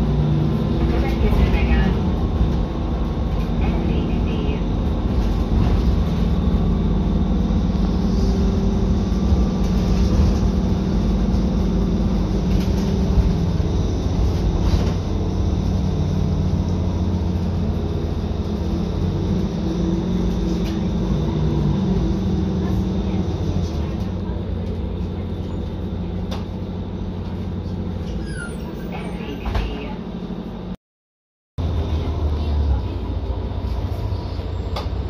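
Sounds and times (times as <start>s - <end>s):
bus engine drone: 0.0s - 30.8s, 31.6s - 35.0s
road rumble: 0.0s - 30.8s, 31.6s - 35.0s.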